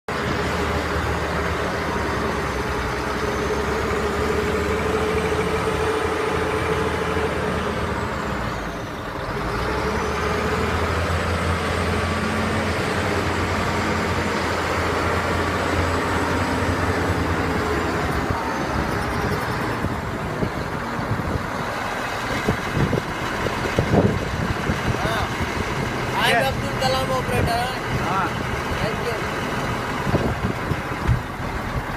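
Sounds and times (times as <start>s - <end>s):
truck diesel engine running: 0.1s - 31.9s.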